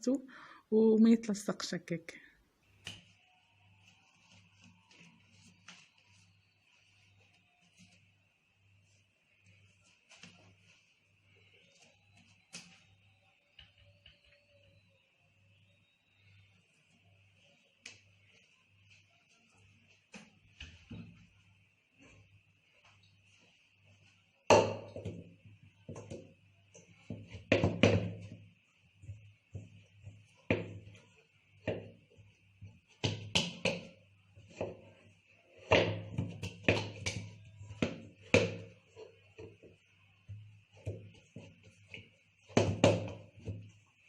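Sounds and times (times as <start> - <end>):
rolling pin rolling over dough: 2.8 - 44.0.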